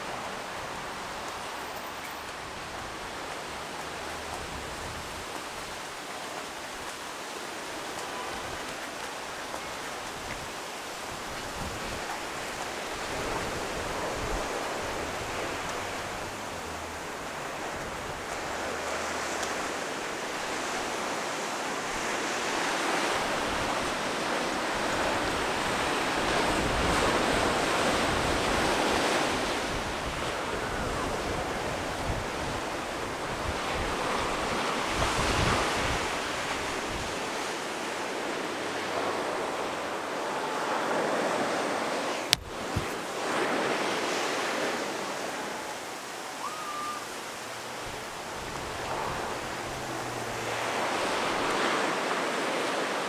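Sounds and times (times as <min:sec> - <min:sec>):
ocean surf breaking: 0:00.0 - 0:53.0.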